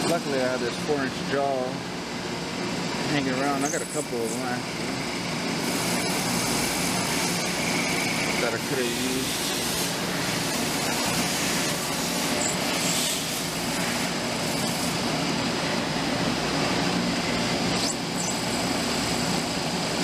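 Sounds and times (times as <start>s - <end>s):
milling machine cutting: 3.1s - 20.0s.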